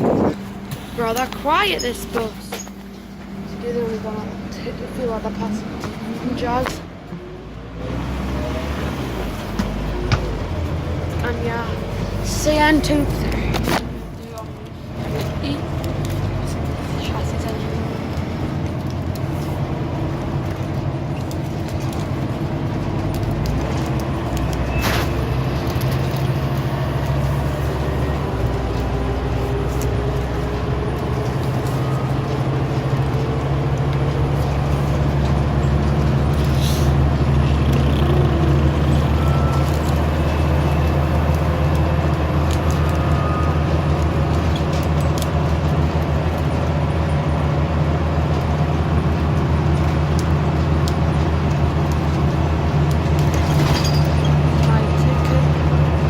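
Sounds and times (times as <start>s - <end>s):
bus engine droning: 0.0s - 56.0s.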